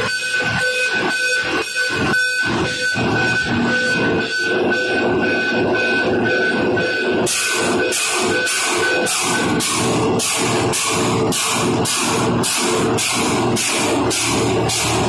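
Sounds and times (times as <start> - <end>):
engine room machinery whine: 0.0 - 15.0.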